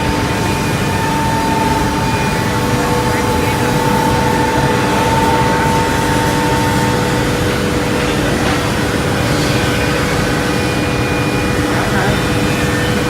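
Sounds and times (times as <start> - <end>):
scroll saw machine droning: 0.0 - 13.0.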